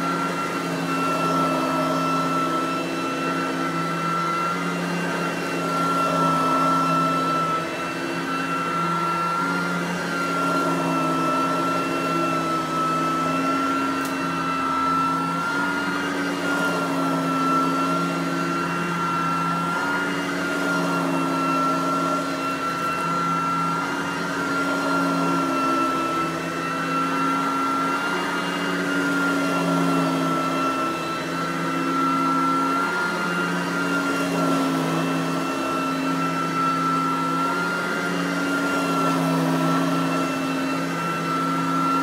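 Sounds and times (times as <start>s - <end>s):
lower vacuum hum: 0.0s - 42.0s
vacuum motor whine: 0.0s - 42.0s.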